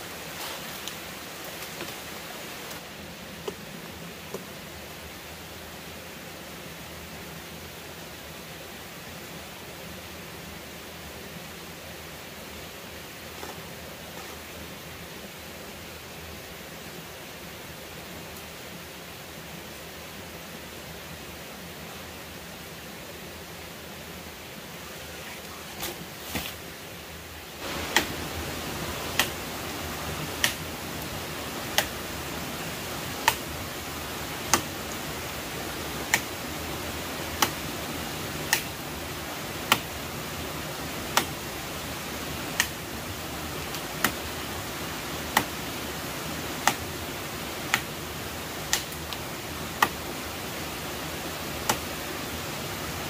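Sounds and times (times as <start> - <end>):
stream cascade rushing: 0.0 - 53.0.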